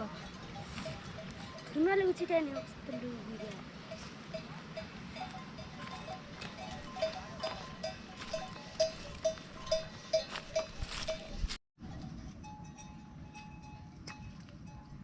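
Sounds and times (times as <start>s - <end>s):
livestock bell clanking: 0.0s - 11.6s, 12.4s - 15.0s.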